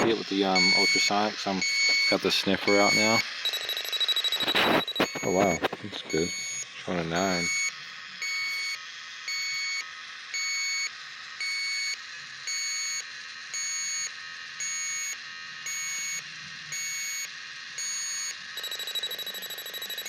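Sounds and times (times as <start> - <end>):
leak detector beeping: 0.0 - 20.0.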